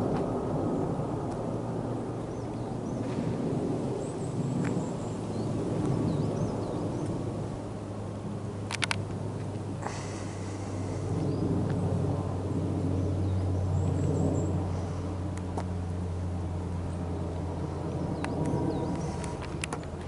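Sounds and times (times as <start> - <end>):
jet engines low rumble: 0.0 - 20.0.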